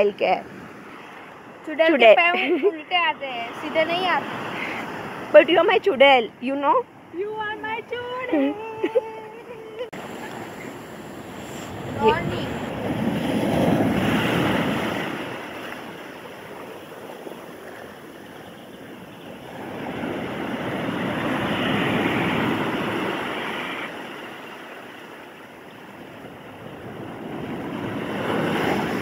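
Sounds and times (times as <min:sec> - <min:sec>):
sea waves breaking on beach: 0:00.0 - 0:06.2, 0:08.0 - 0:29.0.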